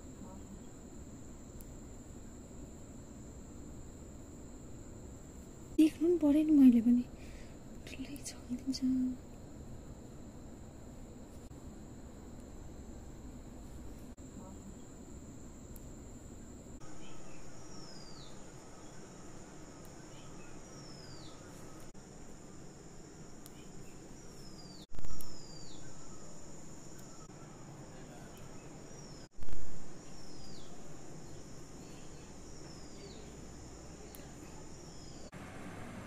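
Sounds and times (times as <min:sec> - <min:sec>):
thin steady high tone: 0:00.0 - 0:11.0, 0:11.6 - 0:35.3.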